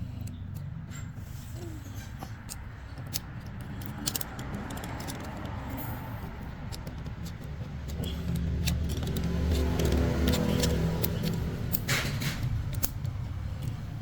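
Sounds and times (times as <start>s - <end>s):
engine rumble: 0.0s - 14.0s
light metallic clicks: 2.0s - 14.0s.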